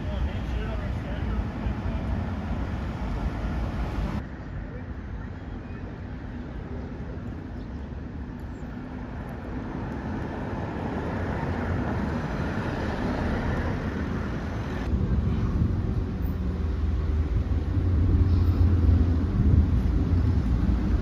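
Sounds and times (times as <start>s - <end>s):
passing cars rumble: 0.0s - 4.6s, 6.0s - 21.0s.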